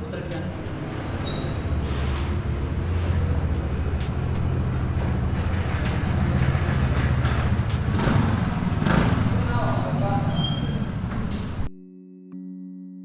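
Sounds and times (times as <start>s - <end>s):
road and wind noise: 0.0s - 11.7s
scooter engine droning: 0.8s - 11.7s.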